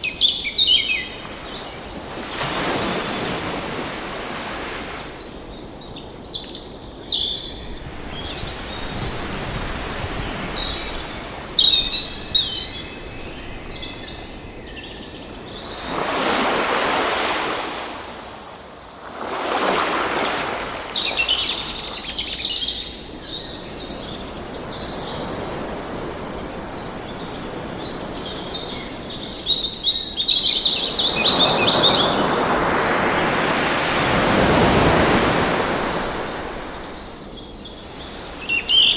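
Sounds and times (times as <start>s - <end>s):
ocean waves washing ashore: 0.0s - 6.2s, 7.3s - 38.9s
birds chirping and singing: 0.0s - 16.0s, 20.6s - 38.9s.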